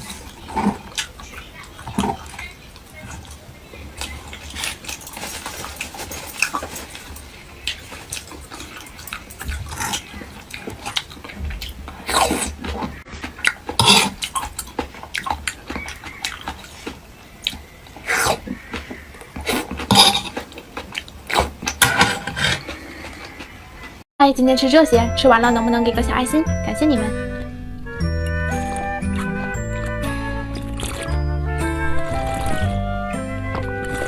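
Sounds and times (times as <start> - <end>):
person chewing noisily: 0.0 - 24.0, 27.1 - 34.0.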